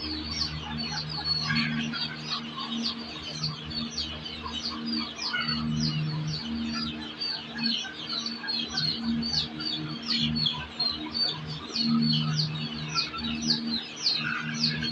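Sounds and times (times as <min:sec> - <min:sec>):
birds chirping in chorus: 0:00.0 - 0:14.9.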